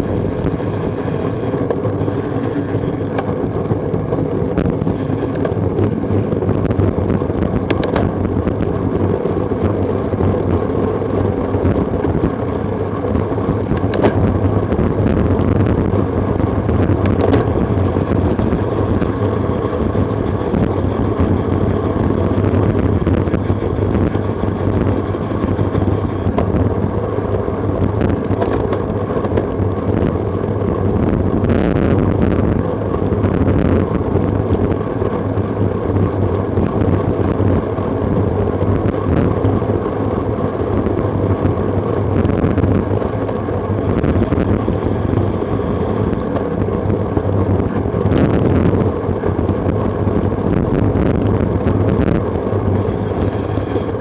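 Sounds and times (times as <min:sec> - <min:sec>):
tyre road noise: 0:00.0 - 0:54.0
wind rushing: 0:00.0 - 0:54.0.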